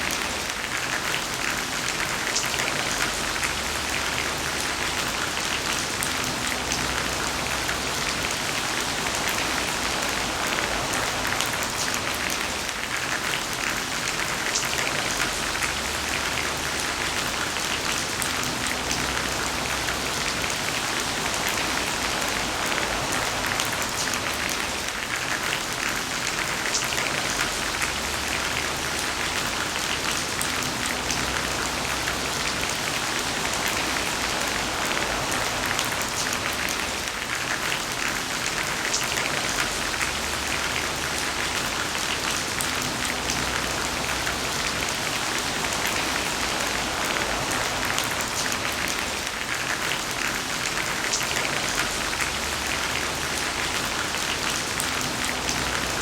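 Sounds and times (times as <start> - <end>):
heavy rain hissing: 0.0 - 56.0
rain drops hitting: 0.0 - 56.0.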